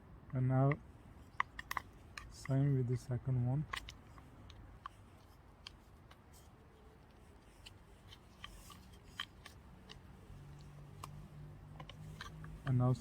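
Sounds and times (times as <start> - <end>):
light clicks and taps: 0.2 - 13.0.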